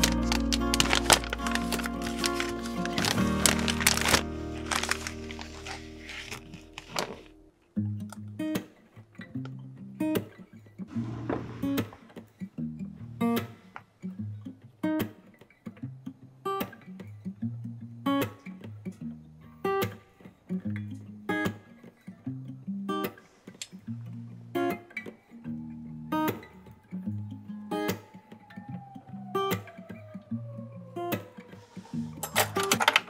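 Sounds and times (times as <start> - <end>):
strummed acoustic guitar: 0.0 - 28.1.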